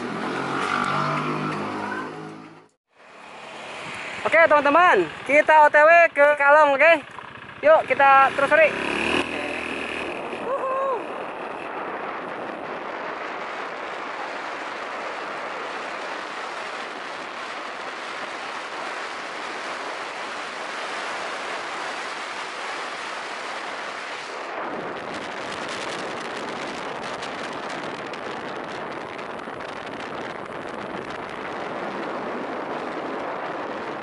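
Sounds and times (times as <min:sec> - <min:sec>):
wind and road noise: 0:00.0 - 0:34.0
wind buffeting microphone: 0:03.7 - 0:34.0.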